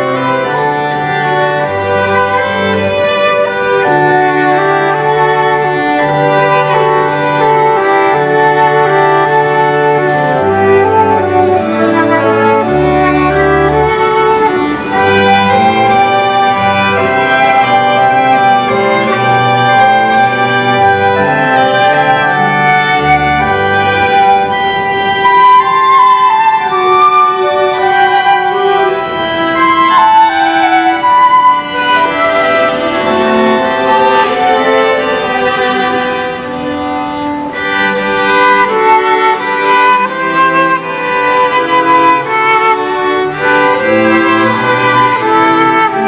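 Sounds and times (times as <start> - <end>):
strings and flute classical piece: 0.0 - 46.0.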